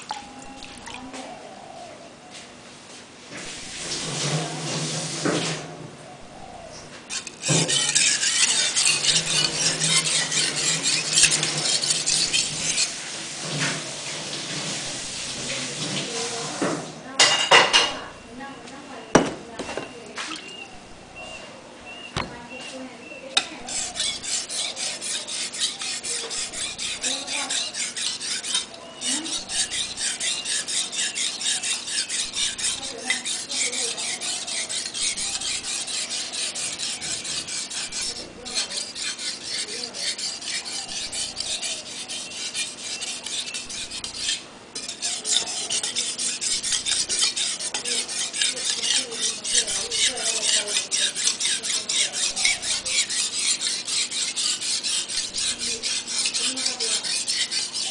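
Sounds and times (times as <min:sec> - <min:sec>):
knife scraping on whetstone: 0:03.4 - 0:05.8, 0:06.4 - 0:18.2, 0:23.3 - 0:57.9.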